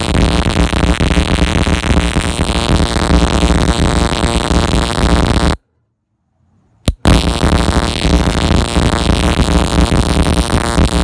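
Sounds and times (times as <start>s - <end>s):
ignition coil crackling buzz: 0.0s - 5.6s, 6.8s - 11.0s.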